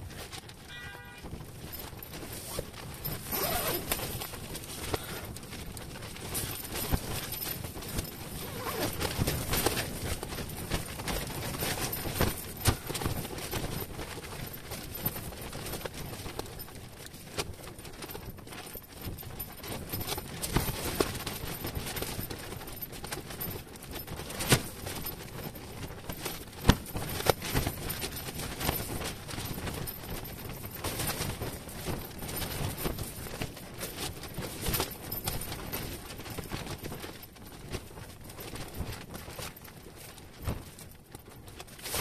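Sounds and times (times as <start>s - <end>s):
tent fabric flapping: 0.0s - 42.0s.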